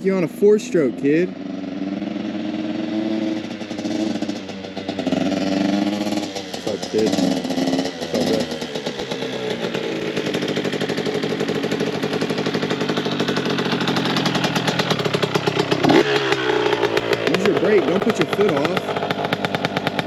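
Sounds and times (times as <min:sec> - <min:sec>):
dirt bike engine puttering: 0:00.0 - 0:20.0.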